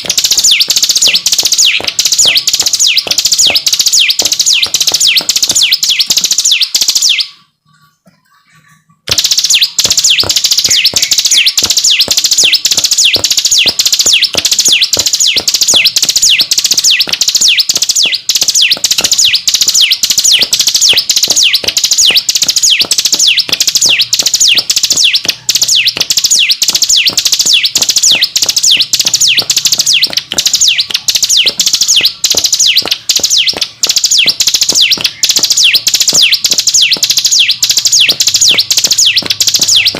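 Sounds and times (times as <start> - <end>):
songbird singing high notes: 0.0 - 7.4, 9.3 - 39.9.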